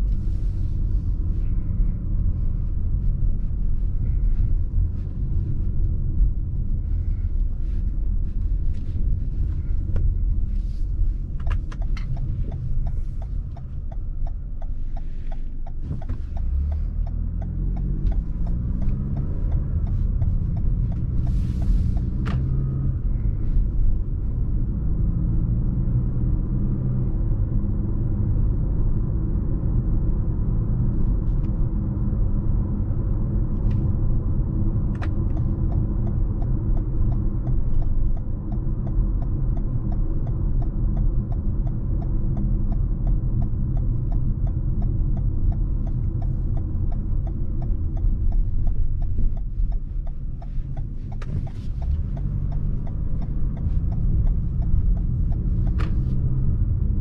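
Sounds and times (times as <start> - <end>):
car engine and tyre rumble: 0.0 - 57.0
turn signal ticking: 0.0 - 57.0.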